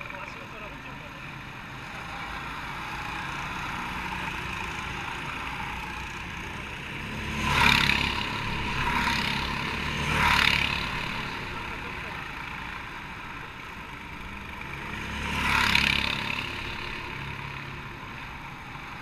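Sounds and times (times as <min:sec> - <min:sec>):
kart engines buzzing: 0:00.0 - 0:19.0.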